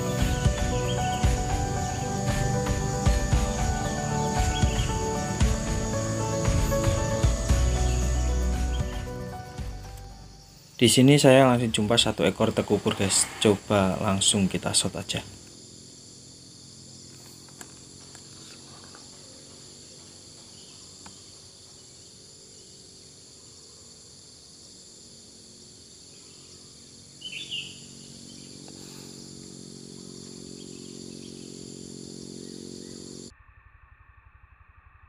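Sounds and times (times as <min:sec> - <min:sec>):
low hum: 0:00.0 - 0:22.2, 0:25.0 - 0:35.0
bird chirp: 0:00.0 - 0:22.9, 0:26.0 - 0:33.3
insects chorus: 0:00.0 - 0:33.3.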